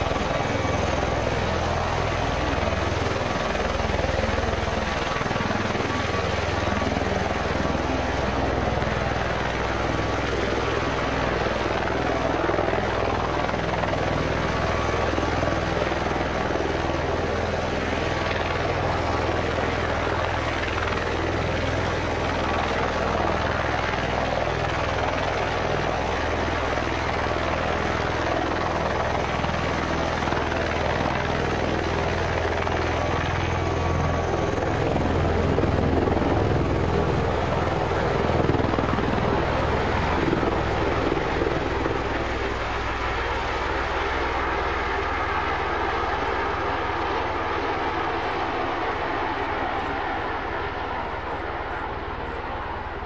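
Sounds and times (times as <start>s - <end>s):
tiltrotor aircraft taking off: 0.0s - 53.0s.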